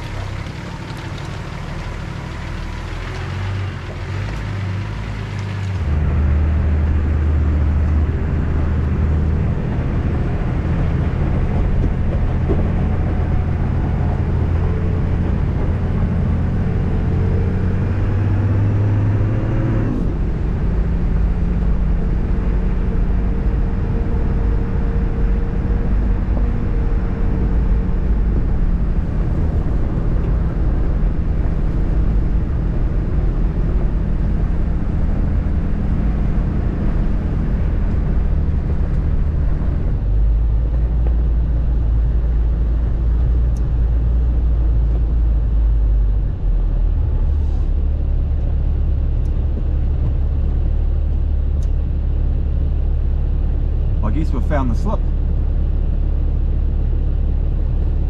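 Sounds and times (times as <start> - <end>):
vehicle driving on gravel: 0.0 - 55.2
vehicle engine running: 0.0 - 58.0.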